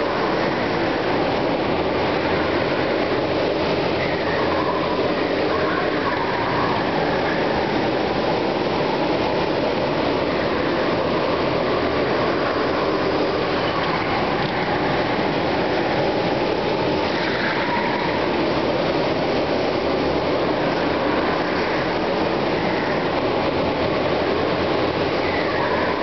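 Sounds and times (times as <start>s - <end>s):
go-kart engines running: 0.0s - 26.0s.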